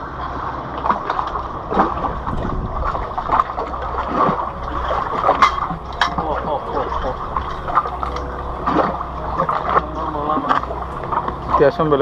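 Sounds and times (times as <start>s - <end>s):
water lapping against rocks: 0.0s - 12.0s
wind on microphone: 1.3s - 12.0s.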